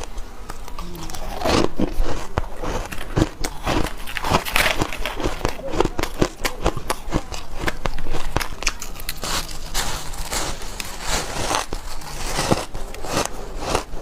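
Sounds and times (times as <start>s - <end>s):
shaved ice being chewed: 0.0s - 14.0s.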